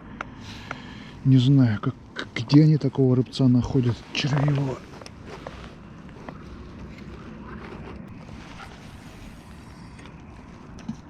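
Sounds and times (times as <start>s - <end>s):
faint light rustles: 2.0s - 11.0s.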